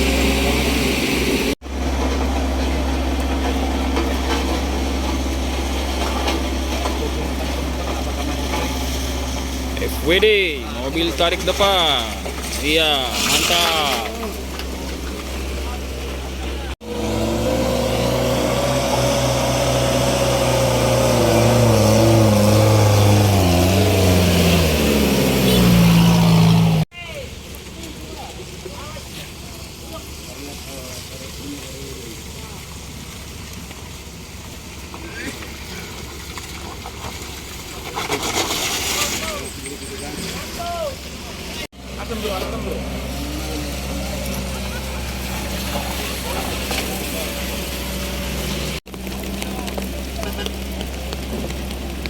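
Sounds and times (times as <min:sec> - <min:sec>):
vehicle engines on road: 0:00.0 - 0:52.0.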